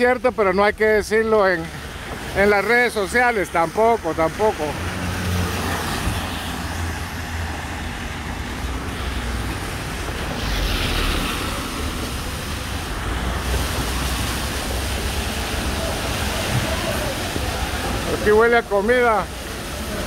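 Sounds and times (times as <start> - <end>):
city traffic: 0.0 - 20.0
tyres hissing on wet road: 0.0 - 20.0.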